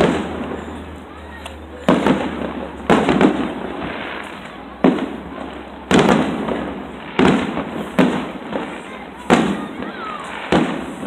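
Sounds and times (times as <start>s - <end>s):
firework shells booming: 0.0s - 11.0s.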